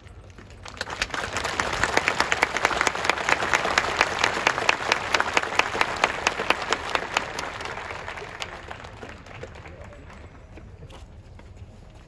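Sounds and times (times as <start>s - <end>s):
crowd applauding: 0.2s - 10.8s.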